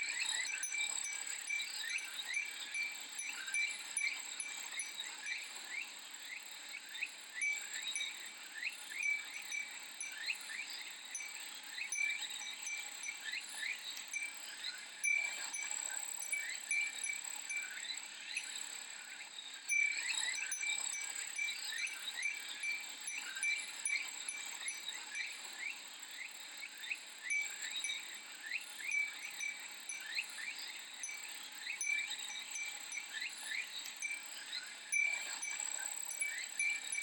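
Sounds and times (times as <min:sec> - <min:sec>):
cicadas droning: 0:00.0 - 0:37.0
glass wind chime tinkling: 0:00.0 - 0:37.0.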